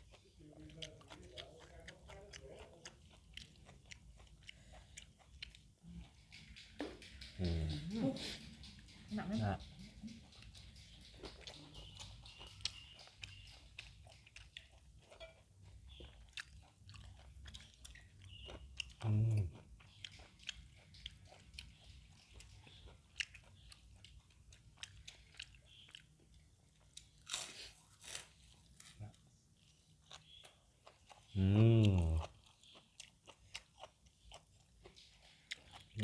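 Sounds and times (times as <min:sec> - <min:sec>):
chewing crisp food: 0:00.0 - 0:36.0.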